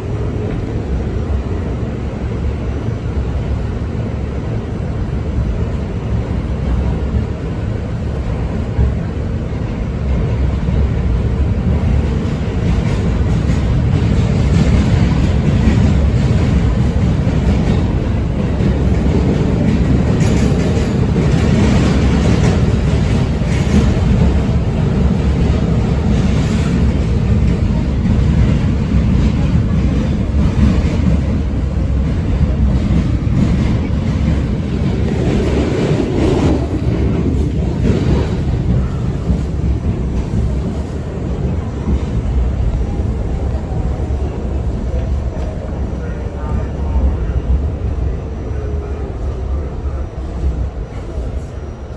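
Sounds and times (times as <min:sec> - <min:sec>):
subway train rumbling in tunnel: 0:00.0 - 0:51.9.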